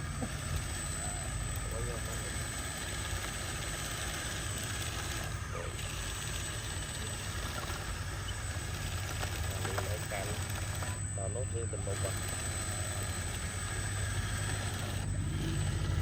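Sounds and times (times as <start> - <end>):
toy truck electric motors humming: 0.0 - 16.0.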